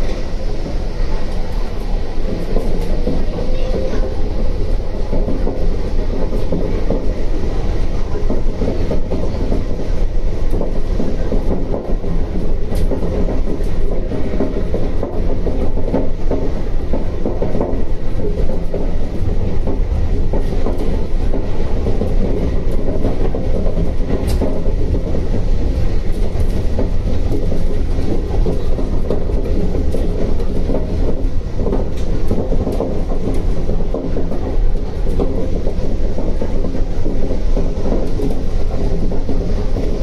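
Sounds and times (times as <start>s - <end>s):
monorail car rumble: 0.0s - 40.0s.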